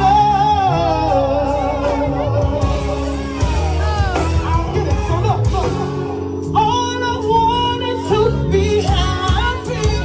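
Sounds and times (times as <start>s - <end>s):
band playing: 0.0s - 10.0s
bass line: 0.0s - 10.0s
person singing: 0.0s - 10.0s.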